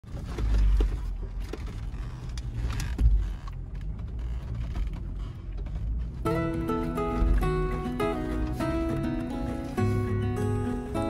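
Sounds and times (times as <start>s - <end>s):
engine and tyres rumbling: 0.0s - 11.0s
knocks and rattles: 0.0s - 11.0s.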